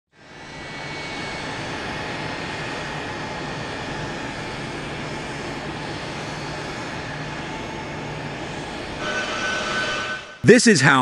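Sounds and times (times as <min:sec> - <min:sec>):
jet engine running: 0:00.1 - 0:11.0.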